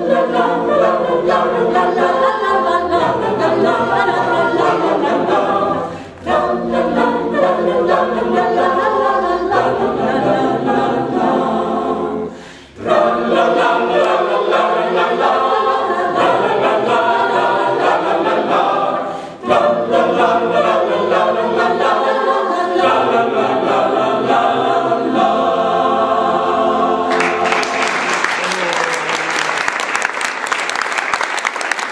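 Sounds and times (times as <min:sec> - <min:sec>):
mixed choir singing a cappella: 0:00.0 - 0:28.0.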